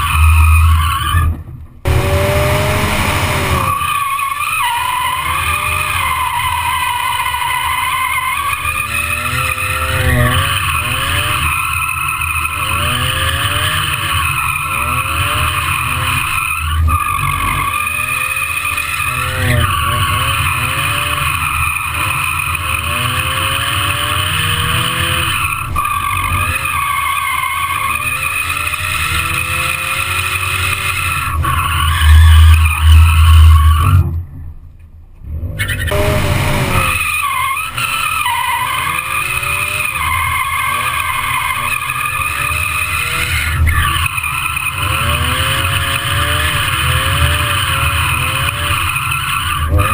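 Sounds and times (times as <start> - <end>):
tyres squealing: 0.0 - 34.0, 35.6 - 49.9
car engine revving: 1.5 - 34.2, 35.2 - 49.9.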